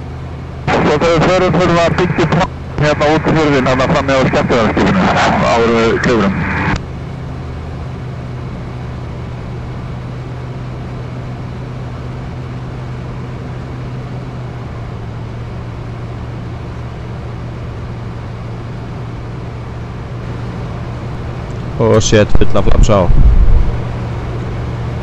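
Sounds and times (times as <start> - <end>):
ultralight aircraft engine droning: 0.0 - 25.0.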